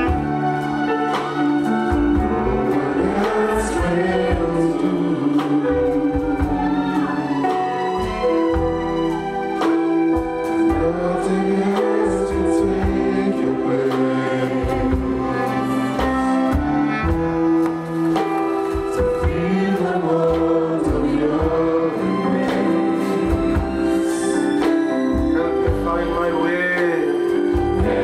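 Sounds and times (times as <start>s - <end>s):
instrumental accompaniment: 0.0s - 28.0s
singers singing worship song: 1.5s - 9.4s, 10.5s - 28.0s.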